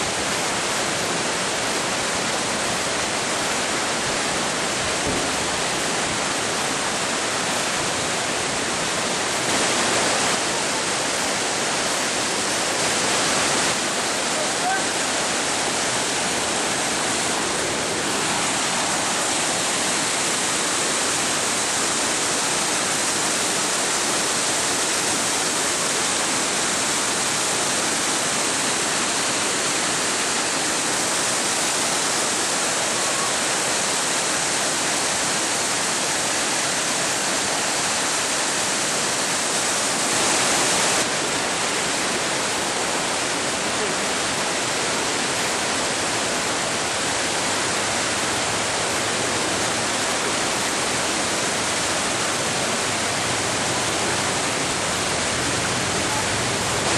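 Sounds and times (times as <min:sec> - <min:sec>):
river rapids rushing: 0:00.0 - 0:56.9.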